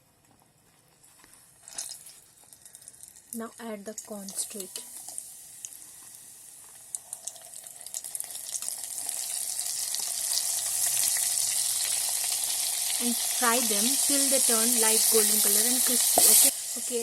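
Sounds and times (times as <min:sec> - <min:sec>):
corn frying in hot oil: 0:01.4 - 0:17.0.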